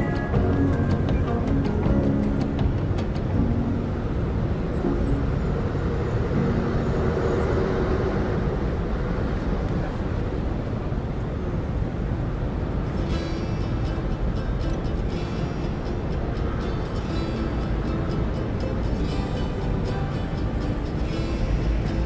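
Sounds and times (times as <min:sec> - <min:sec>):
faint musical tones: 0:00.0 - 0:10.0, 0:11.0 - 0:22.0
street ambience low rumble: 0:00.0 - 0:22.0.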